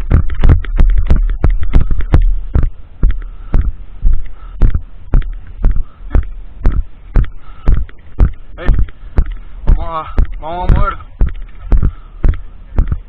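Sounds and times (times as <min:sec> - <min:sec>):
footsteps on ground: 0:00.0 - 0:13.0.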